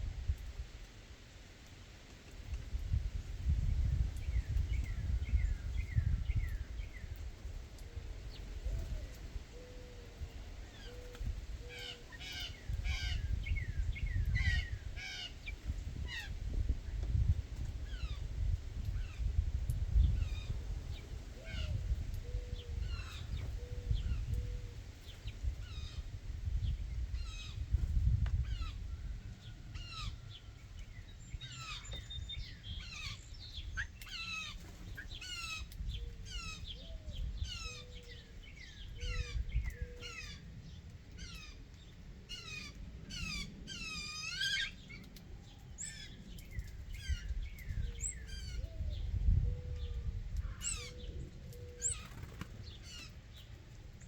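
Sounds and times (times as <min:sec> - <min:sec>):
songbirds chirping: 0:00.2 - 0:54.0.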